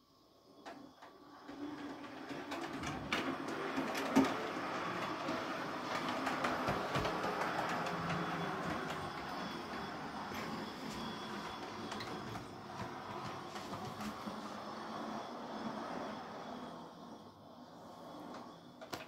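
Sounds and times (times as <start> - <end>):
model train running on rails: 0.6 - 19.0.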